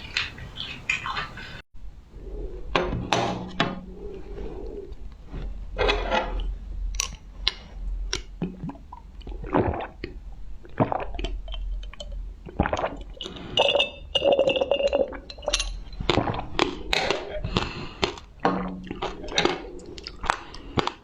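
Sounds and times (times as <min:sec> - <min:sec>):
person gulping and swallowing: 0:03.5 - 0:21.0.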